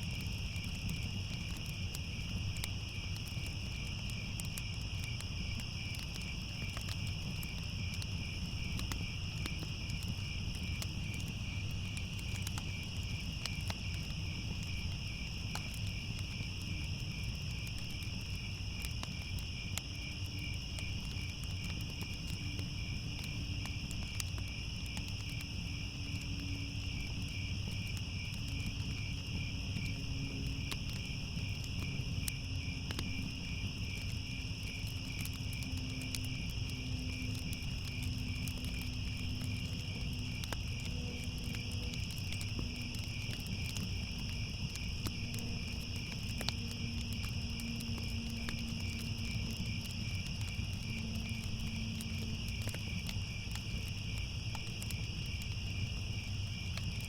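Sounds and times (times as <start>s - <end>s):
crickets chirping: 0.0s - 57.0s
fire crackling: 0.0s - 57.0s.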